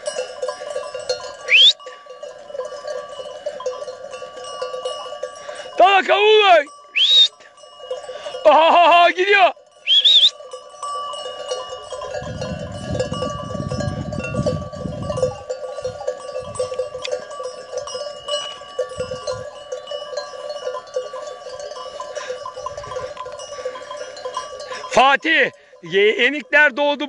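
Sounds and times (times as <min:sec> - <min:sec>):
sheep and goat bells ringing: 0:00.0 - 0:27.0.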